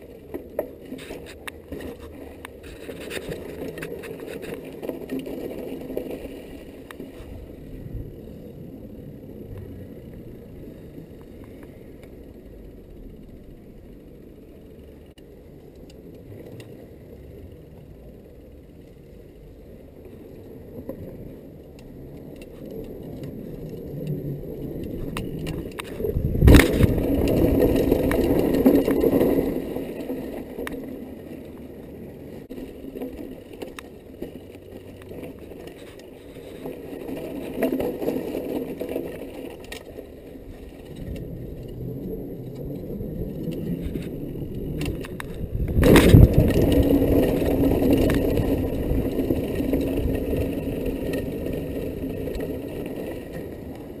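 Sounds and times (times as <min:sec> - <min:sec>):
bike rattling: 0:00.0 - 0:54.0
bike tyres rumbling: 0:00.0 - 0:54.0.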